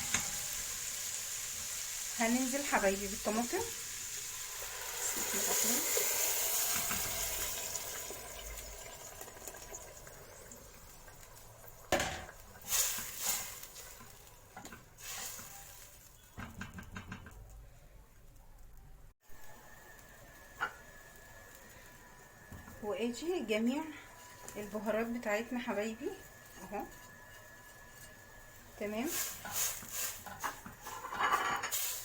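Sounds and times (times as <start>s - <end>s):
tomatoes sizzling in hot oil: 0.0s - 17.5s, 19.2s - 32.0s.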